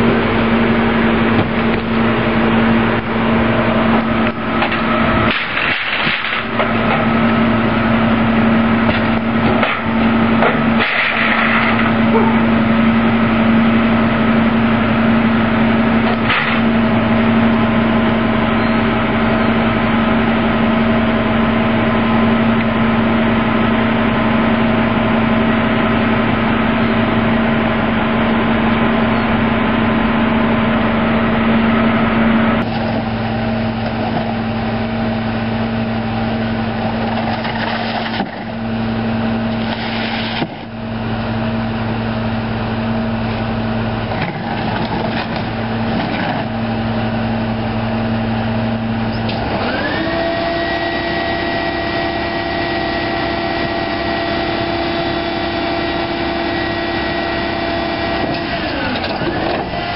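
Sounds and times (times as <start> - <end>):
garbage truck engine droning: 0.0 - 59.9.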